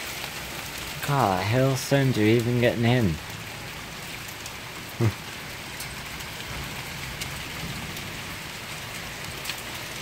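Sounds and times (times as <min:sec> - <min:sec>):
hailstones ticking: 0:00.0 - 0:10.0
heavy rain pouring: 0:00.0 - 0:10.0.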